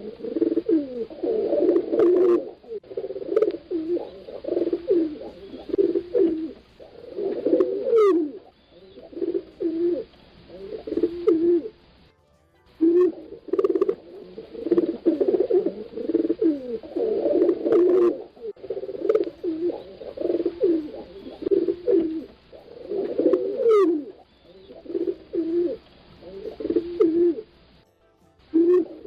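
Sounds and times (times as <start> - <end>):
pigeons cooing: 0.0 - 12.0, 12.8 - 27.6, 28.5 - 29.0.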